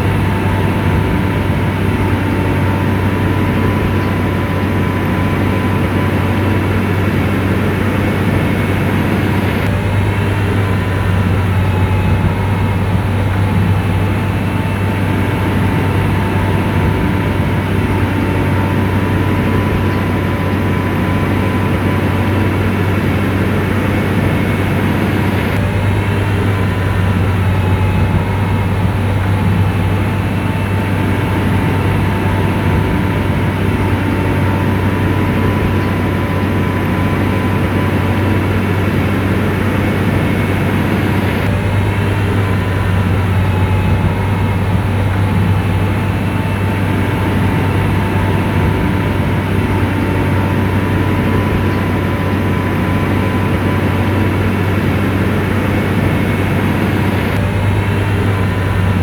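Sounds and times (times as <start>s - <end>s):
diesel engine running under load: 0.0s - 59.0s
thin steady whine: 0.0s - 59.0s.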